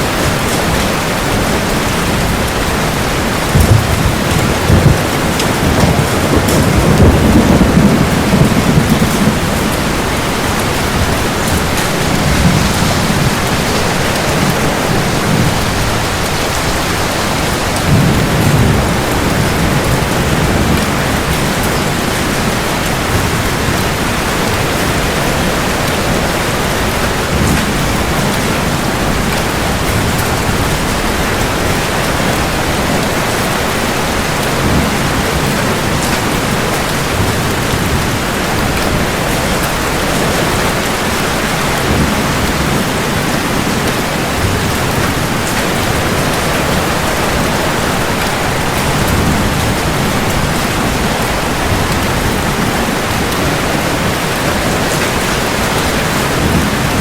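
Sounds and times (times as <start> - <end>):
heavy rain falling: 0.0 - 57.0
low thunder rolls: 0.0 - 57.0.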